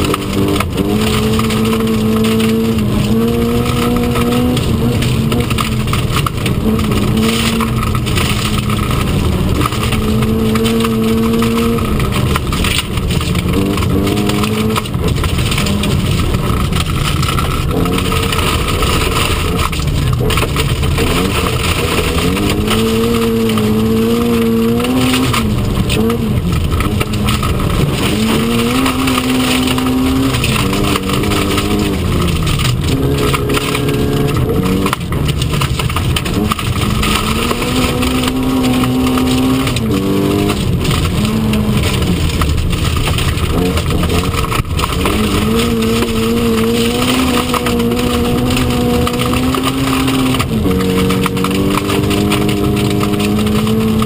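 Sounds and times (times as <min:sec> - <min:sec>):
car engine revving: 0:00.0 - 0:54.0
tyre and gravel noise: 0:00.0 - 0:54.0.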